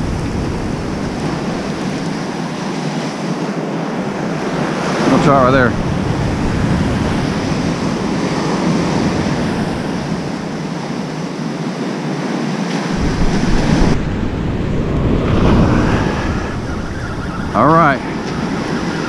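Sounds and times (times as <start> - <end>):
wind on microphone: 0.0 - 2.6, 3.9 - 11.4, 12.8 - 19.0
ocean surf breaking: 0.0 - 19.0.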